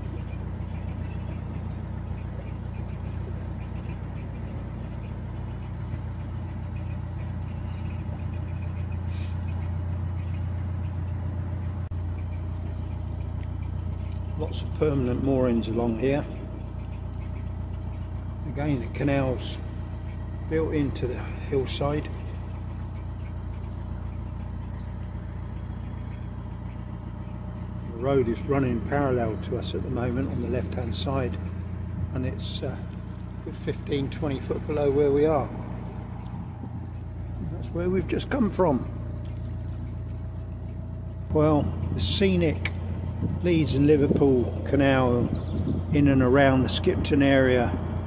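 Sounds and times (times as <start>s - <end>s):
diesel boat engine droning: 0.0s - 48.0s.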